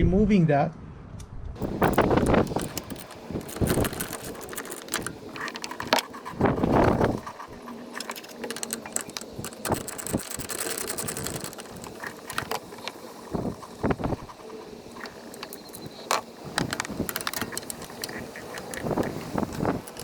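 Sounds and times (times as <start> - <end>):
metallic tool clicks and clinks: 1.6 - 20.0.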